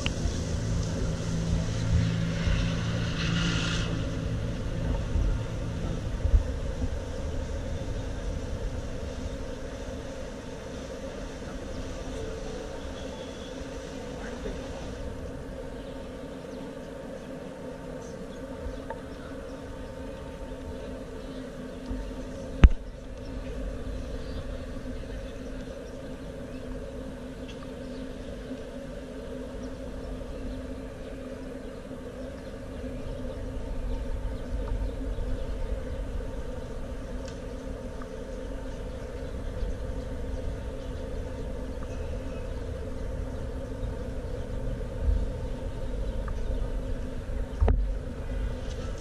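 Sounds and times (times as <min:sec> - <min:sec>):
steady hum: 0:00.0 - 0:49.0
traffic rumble: 0:00.0 - 0:49.0.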